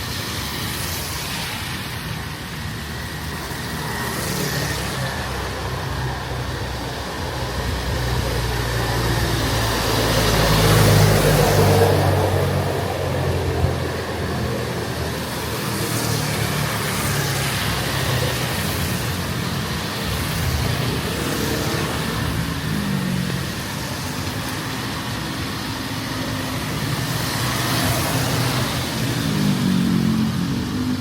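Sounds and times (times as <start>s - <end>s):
vehicle engines running: 1.5s - 31.0s.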